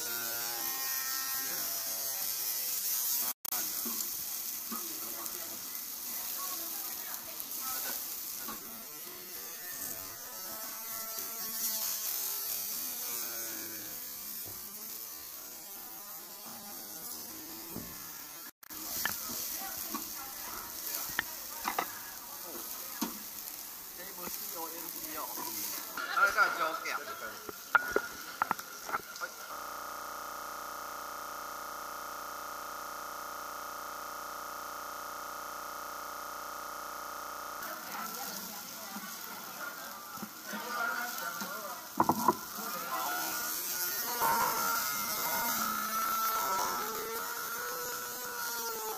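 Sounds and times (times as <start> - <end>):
beef sizzling on grill: 0.0 - 48.9.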